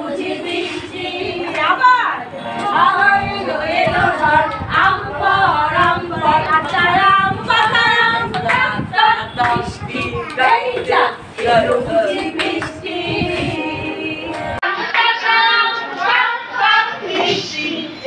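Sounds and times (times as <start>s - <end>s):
women and children singing: 0.0s - 18.0s.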